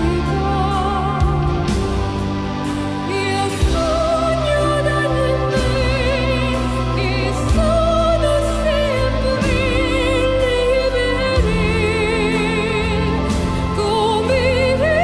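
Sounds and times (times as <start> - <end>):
person singing with vibrato: 0.0 - 15.0
steady bass: 0.0 - 15.0.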